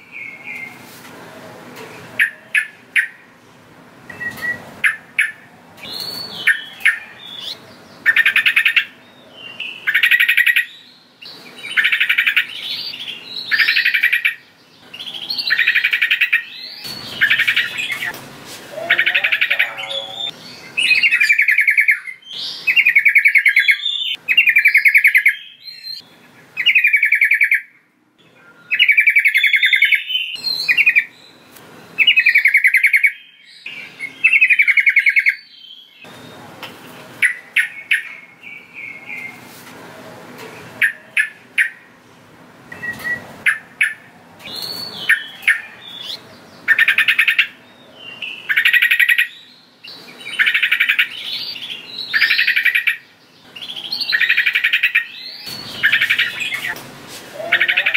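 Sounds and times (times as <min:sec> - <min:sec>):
bulbul singing: 0:02.2 - 0:03.3, 0:04.1 - 0:36.5, 0:42.7 - 0:56.8.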